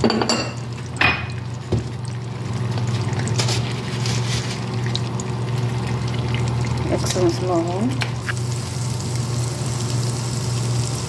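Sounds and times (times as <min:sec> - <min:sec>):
hot oil sizzling in a pot: 0:00.0 - 0:11.0.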